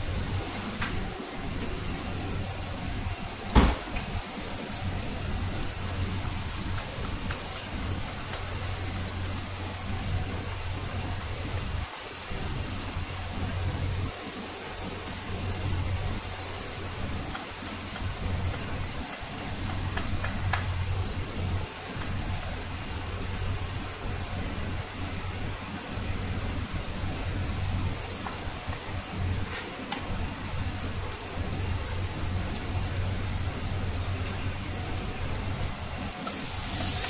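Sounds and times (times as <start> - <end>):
onions sizzling in oil: 0.0 - 37.0.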